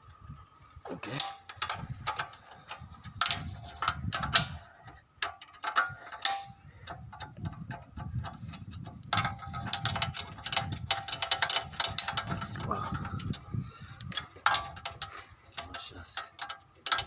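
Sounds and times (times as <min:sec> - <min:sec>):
metallic taps: 0:01.1 - 0:17.0
ratchet wrench clicking: 0:01.4 - 0:17.0.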